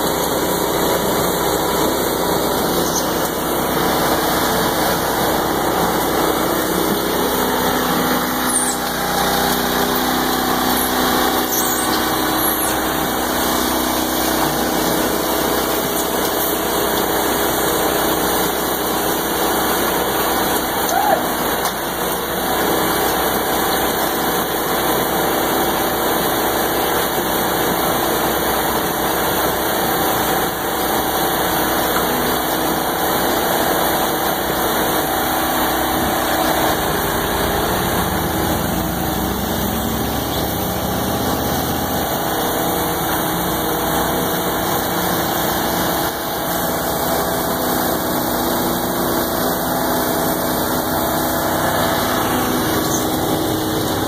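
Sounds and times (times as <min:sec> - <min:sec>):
machine engines running steadily: 0:00.0 - 0:54.0.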